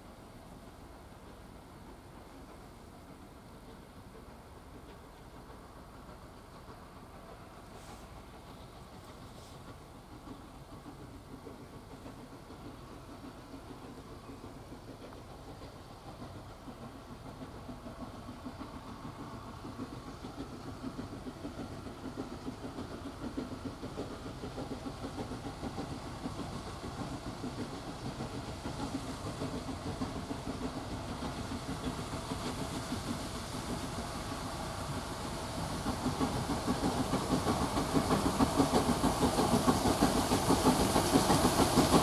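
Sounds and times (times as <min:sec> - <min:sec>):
steam locomotive exhaust beats: 0:00.0 - 0:42.0.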